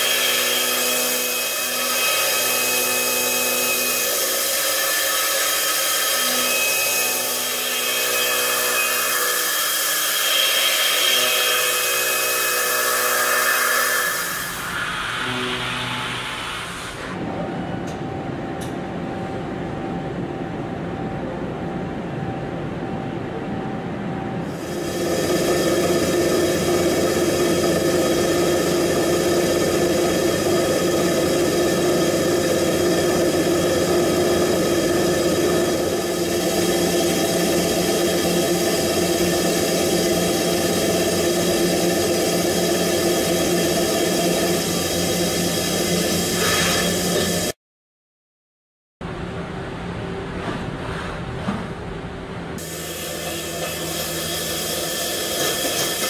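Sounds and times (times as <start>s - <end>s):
machine whirring and whining: 0.0s - 47.6s, 49.1s - 56.0s.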